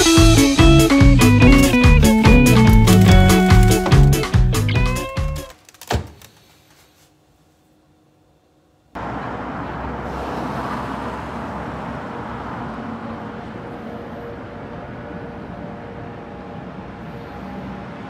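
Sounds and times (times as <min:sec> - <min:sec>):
street traffic rumble: 0:00.0 - 0:05.5, 0:09.0 - 0:18.0.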